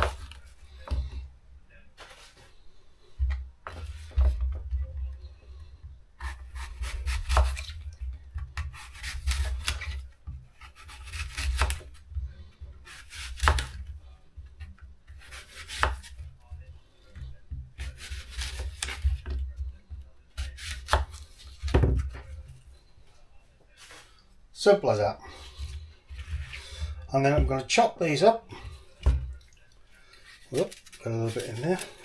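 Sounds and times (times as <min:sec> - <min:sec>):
knife cutting apples: 0:00.0 - 0:01.2, 0:03.2 - 0:04.6, 0:05.3 - 0:22.6, 0:25.3 - 0:27.7, 0:28.5 - 0:32.0.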